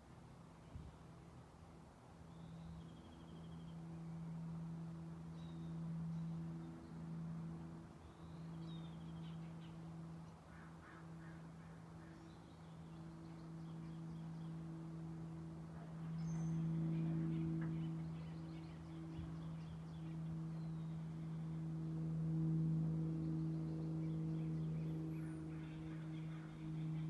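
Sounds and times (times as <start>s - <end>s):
steady low hum: 0.0s - 27.0s
bird chirps and trills: 2.3s - 27.0s.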